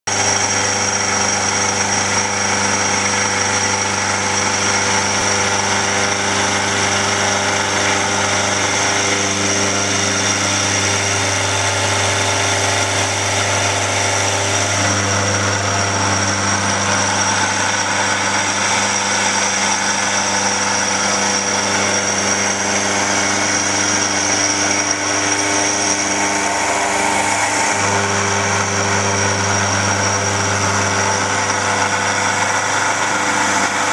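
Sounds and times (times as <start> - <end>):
milling machine cutting metal: 0.1 - 33.9.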